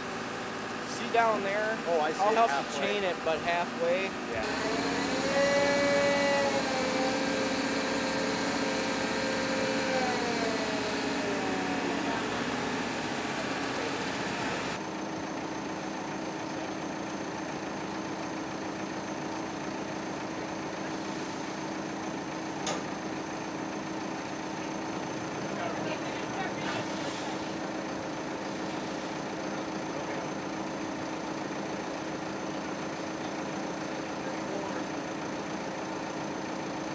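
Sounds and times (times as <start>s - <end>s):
heavy equipment engine running: 0.0s - 36.9s.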